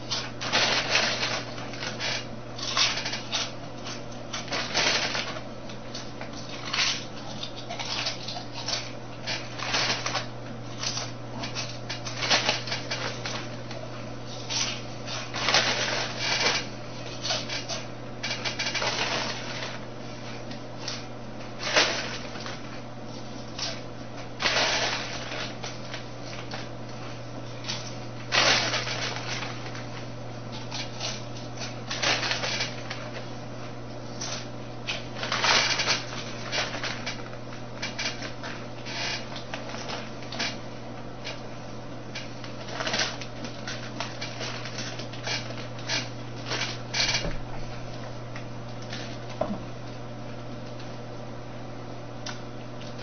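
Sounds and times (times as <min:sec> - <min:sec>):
foil chip bag crinkling: 0:00.0 - 0:49.4
steady low hum: 0:00.0 - 0:53.0.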